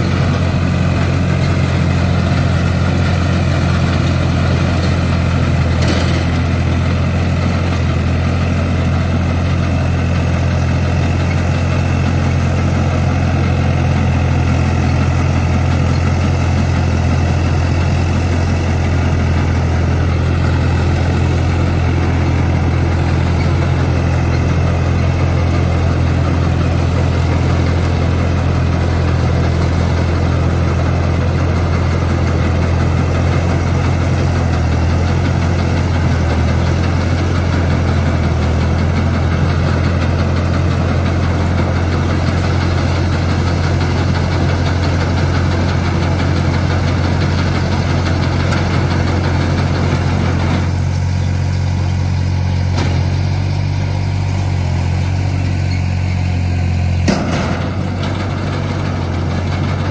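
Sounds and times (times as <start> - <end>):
baler machinery clattering: 0.0 - 59.9
tractor diesel engine running: 0.0 - 59.9.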